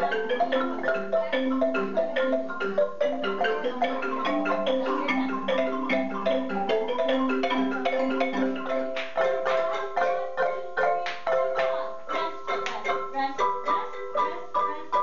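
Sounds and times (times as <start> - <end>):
marimbas playing: 0.0 - 15.0.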